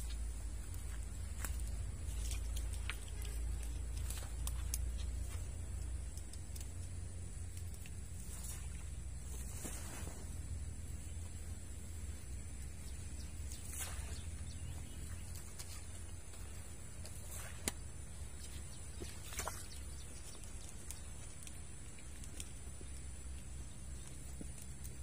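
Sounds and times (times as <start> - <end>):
constant high hiss: 0.0 - 25.0
low rumble: 0.0 - 25.0.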